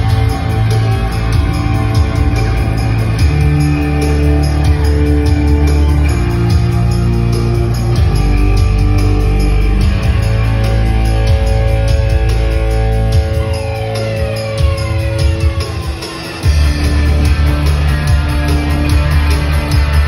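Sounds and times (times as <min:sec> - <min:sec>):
bass guitar: 0:00.0 - 0:20.0
electric guitar: 0:00.0 - 0:20.0
steady drum beat: 0:00.0 - 0:20.0.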